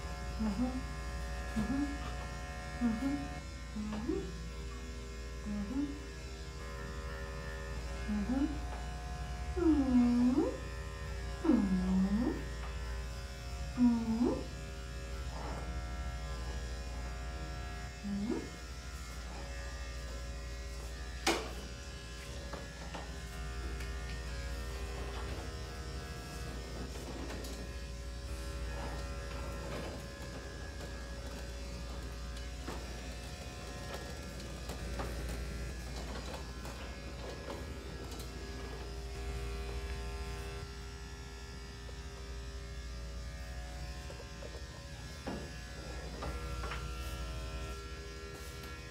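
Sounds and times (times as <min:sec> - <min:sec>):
electric clipper buzzing: 0:00.0 - 0:48.9.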